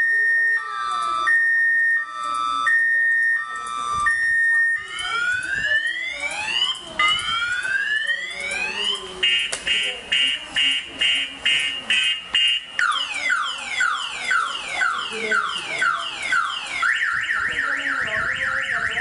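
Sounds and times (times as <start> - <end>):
electronic alarm siren: 0.0 - 19.0.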